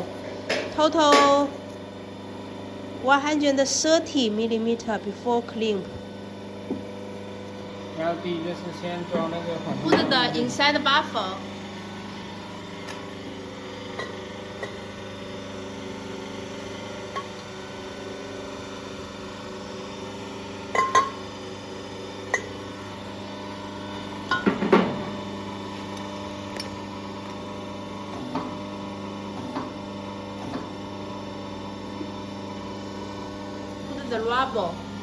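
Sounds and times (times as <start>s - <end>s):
steady electrical hum: 0.0s - 35.0s.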